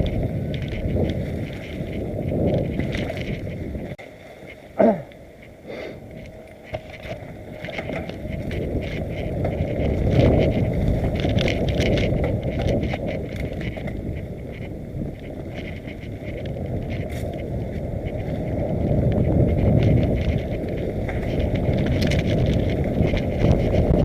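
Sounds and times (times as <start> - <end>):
bike clattering over rocks: 0.0 - 3.9, 6.2 - 24.0
wind rumbling on microphone: 0.0 - 24.0.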